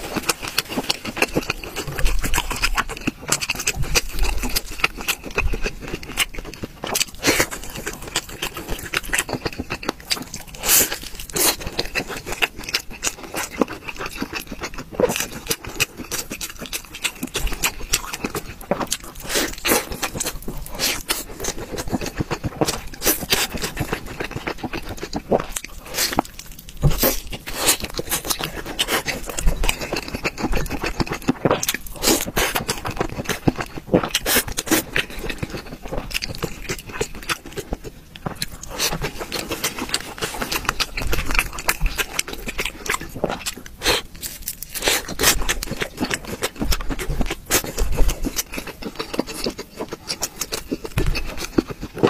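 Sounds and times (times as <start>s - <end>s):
person chewing crispy fried food: 0.0s - 52.0s.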